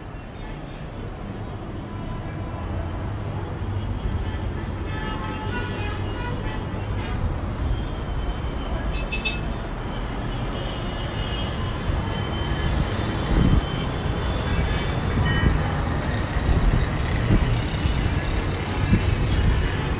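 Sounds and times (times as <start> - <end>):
city traffic rumble: 0.0 - 19.9.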